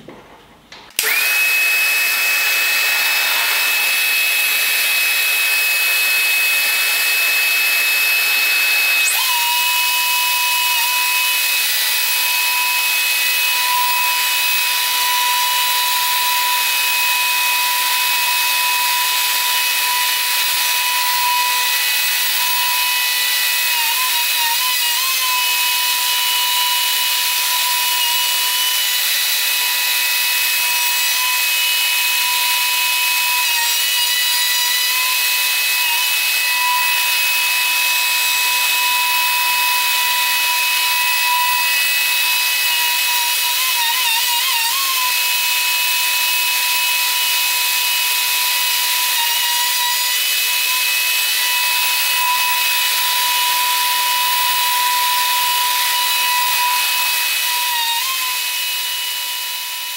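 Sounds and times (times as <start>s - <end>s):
router milling wood: 0.8s - 59.9s.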